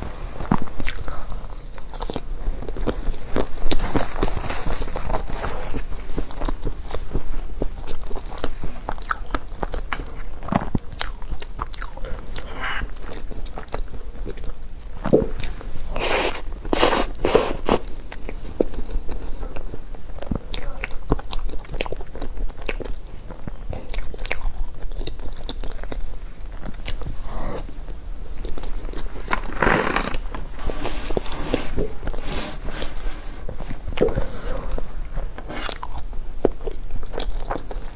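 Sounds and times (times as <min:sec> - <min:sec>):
chewing crispy pastry: 0:00.4 - 0:37.9.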